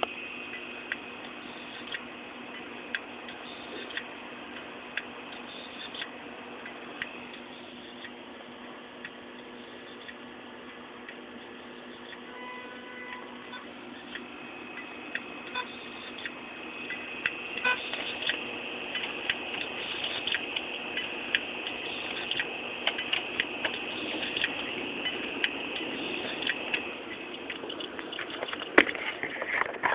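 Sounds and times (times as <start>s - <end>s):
computer hum: 0.0s - 29.9s
hard drive clicks and ticks: 0.0s - 29.9s.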